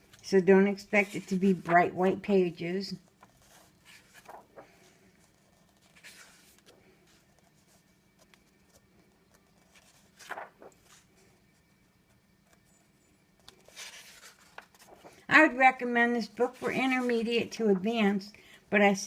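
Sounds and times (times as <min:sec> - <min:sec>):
paper pages rustling: 0:00.0 - 0:18.2.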